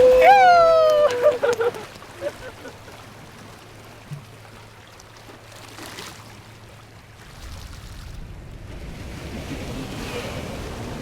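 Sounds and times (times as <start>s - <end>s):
seawater splashing and lapping: 0.0s - 11.0s.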